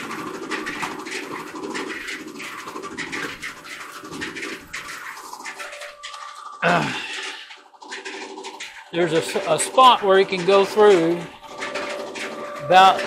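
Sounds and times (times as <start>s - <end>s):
dryer drum rattling and scraping: 0.0s - 13.0s.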